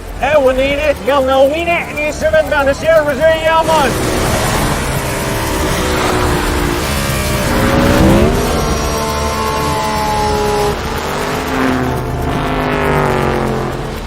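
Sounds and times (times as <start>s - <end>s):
reversed race car engine: 0.0s - 14.0s.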